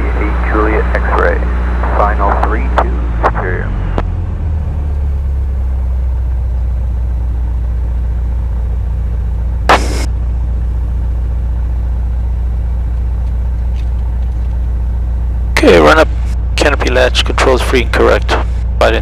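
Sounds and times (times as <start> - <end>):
aircraft engine running: 0.0 - 19.0.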